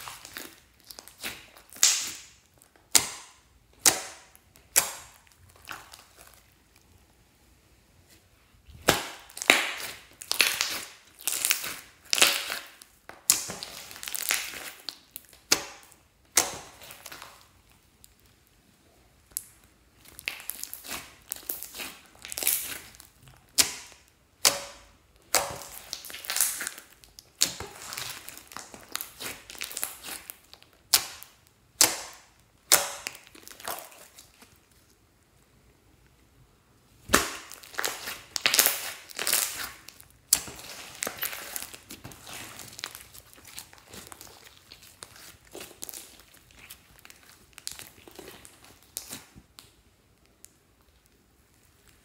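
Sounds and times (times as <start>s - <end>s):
sticky wet slime squelching: 0.0s - 7.1s, 8.2s - 18.6s, 19.2s - 35.0s, 37.0s - 52.0s.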